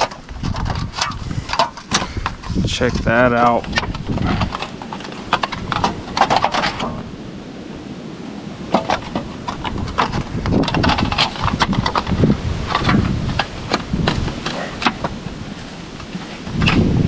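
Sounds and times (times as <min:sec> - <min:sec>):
sheet metal scraping against wood: 0:00.0 - 0:07.1, 0:08.7 - 0:16.9.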